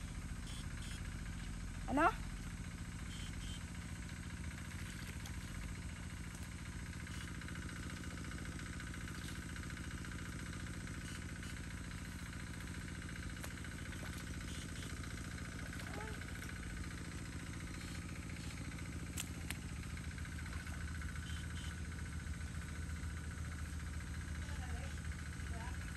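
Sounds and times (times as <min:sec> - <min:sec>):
water pump engine droning: 0:00.0 - 0:25.9.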